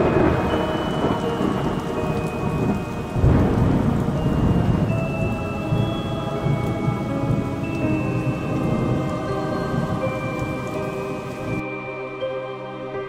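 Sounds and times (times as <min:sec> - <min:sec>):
rumbling thunder: 0:00.0 - 0:11.6
steady rain: 0:00.0 - 0:13.0
sustained musical tones: 0:00.0 - 0:13.0.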